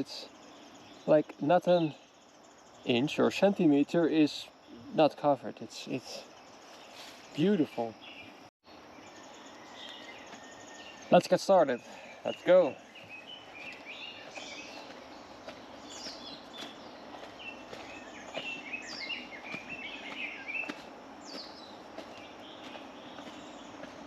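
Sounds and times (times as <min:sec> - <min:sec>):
birds chirping and calling: 0:00.0 - 0:24.0
outdoor background noise: 0:00.0 - 0:24.0.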